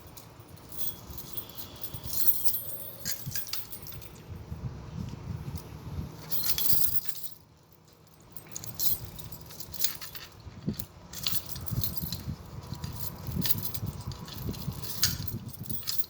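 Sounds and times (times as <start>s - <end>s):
keys jangling: 0.0s - 4.5s, 5.5s - 16.0s.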